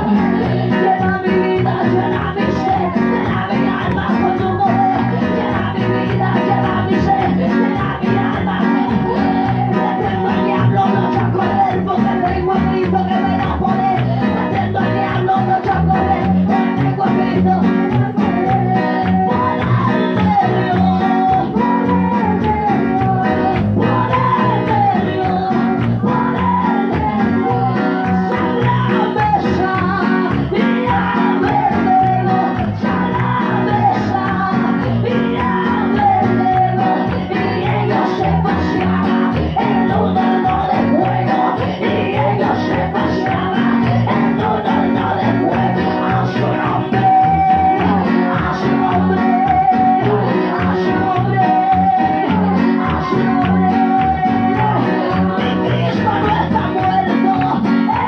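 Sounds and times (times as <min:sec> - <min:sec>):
amplified church band: 0:00.0 - 0:58.0
woman singing into a microphone: 0:00.0 - 0:58.0.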